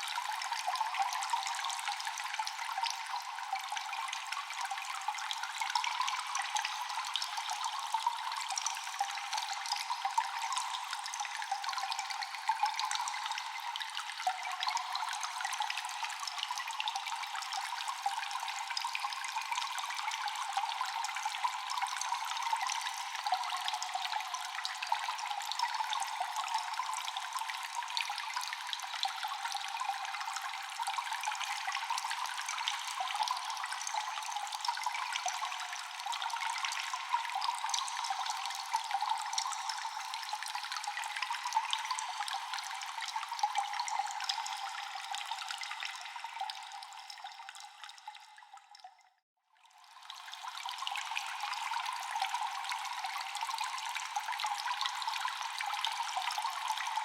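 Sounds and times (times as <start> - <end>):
water dripping in a cave: 0.0 - 57.0.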